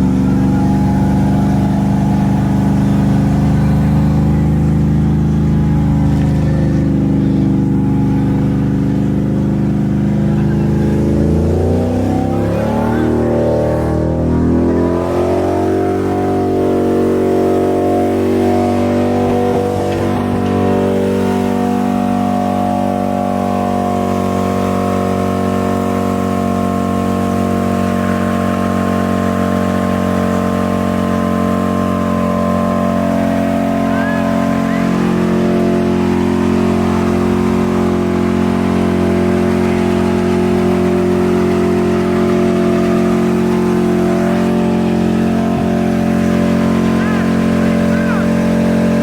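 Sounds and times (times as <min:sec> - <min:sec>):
vehicle engine running loudly: 0:00.0 - 0:49.0.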